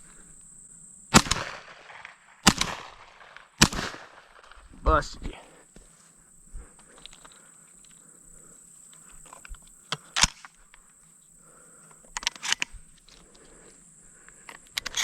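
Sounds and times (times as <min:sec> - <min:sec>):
insects droning in a field: 0:00.0 - 0:15.0.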